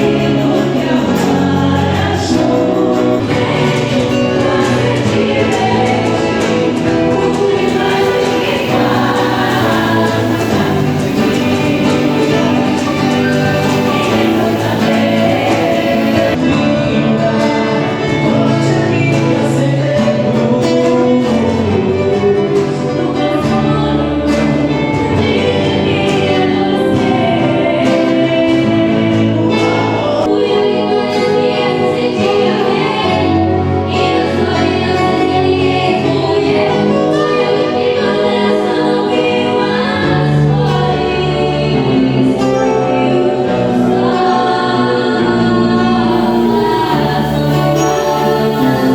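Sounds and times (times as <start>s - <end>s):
choir singing: 0.0s - 48.9s.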